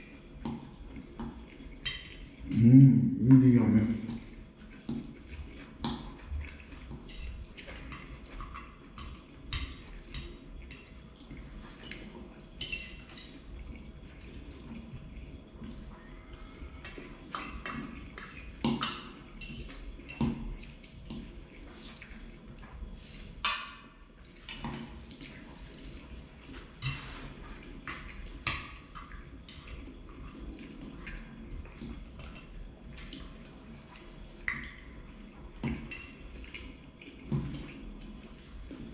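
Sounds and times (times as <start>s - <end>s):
wet chewing: 3.9s - 38.9s.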